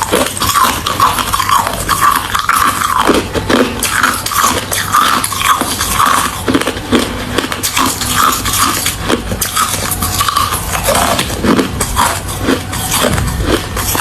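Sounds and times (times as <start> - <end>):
ice crunching between teeth: 0.0 - 14.0.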